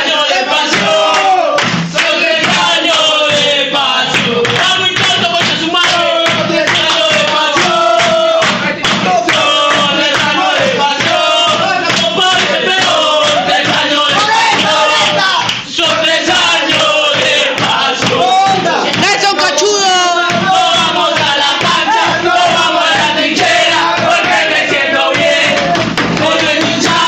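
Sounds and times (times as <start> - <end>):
steady drum beat: 0.0 - 27.0
voices singing: 0.0 - 27.0.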